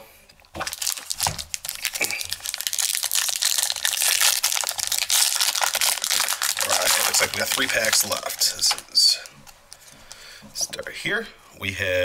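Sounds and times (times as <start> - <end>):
plastic wrapper crinkling: 0.5 - 10.2.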